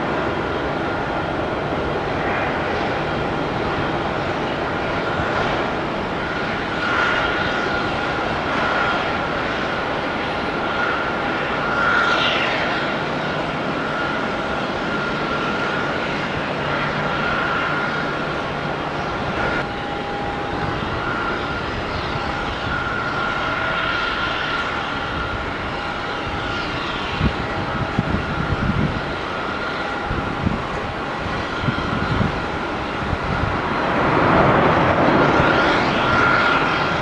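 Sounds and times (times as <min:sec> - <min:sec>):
jet engines running with whine: 0:00.0 - 0:37.0.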